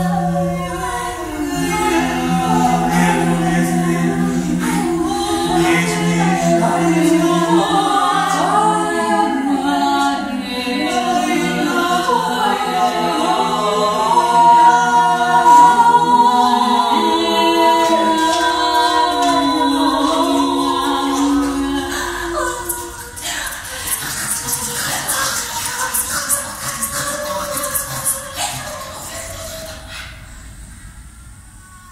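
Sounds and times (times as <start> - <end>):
voices singing a cappella: 0.0 - 30.5.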